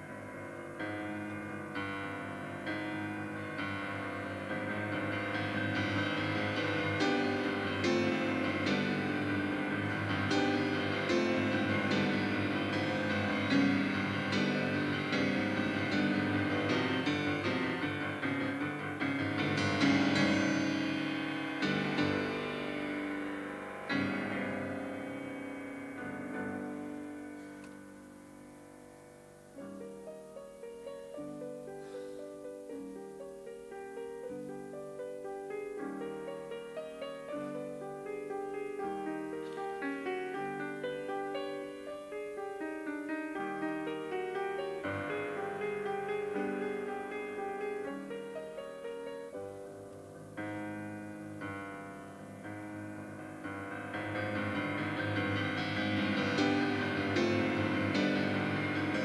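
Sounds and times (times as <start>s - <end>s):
solo grand piano: 0.0s - 59.0s.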